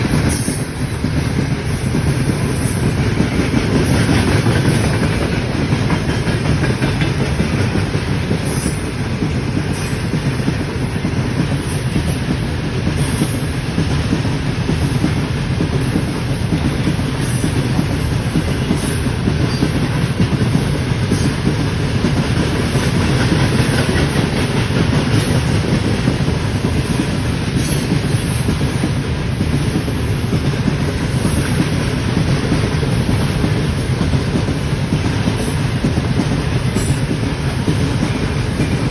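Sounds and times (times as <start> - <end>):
train wheels rumbling on rails: 0.0 - 38.9
wheels clacking over rail joints: 0.0 - 38.9.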